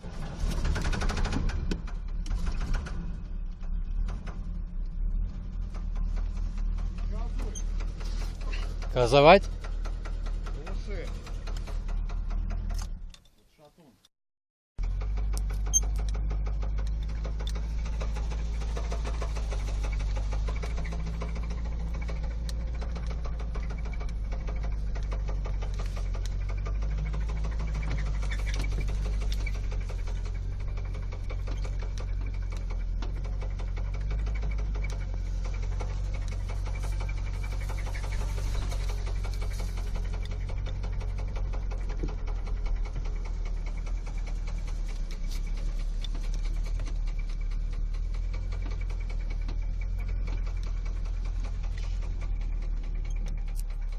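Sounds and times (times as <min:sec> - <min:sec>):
engine knocking: 0:00.0 - 0:13.1, 0:14.8 - 0:53.9
engine low drone: 0:00.0 - 0:13.6, 0:14.8 - 0:53.9.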